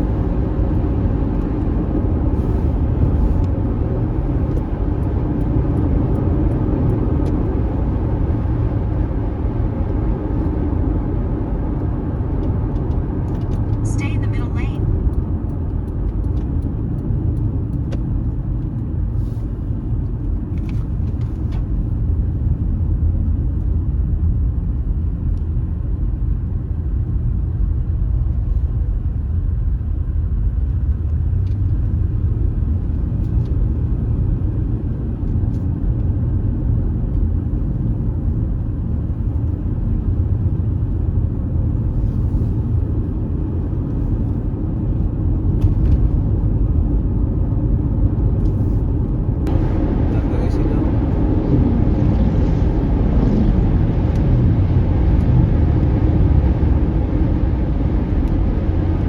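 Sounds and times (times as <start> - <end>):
car driving on dirt road: 0.0 - 59.0.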